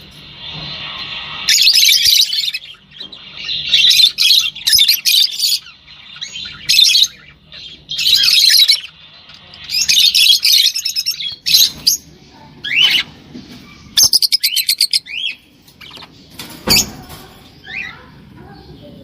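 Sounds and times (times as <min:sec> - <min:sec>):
bird chirping harshly: 0:00.9 - 0:18.2.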